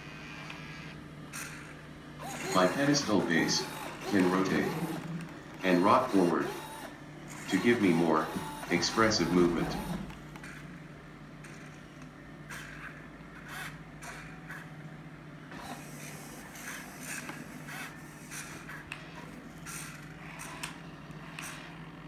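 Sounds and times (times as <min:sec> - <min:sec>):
steady low hum: 0:00.0 - 0:22.0
servo motors whirring: 0:00.1 - 0:10.6, 0:12.5 - 0:14.7, 0:15.5 - 0:22.0.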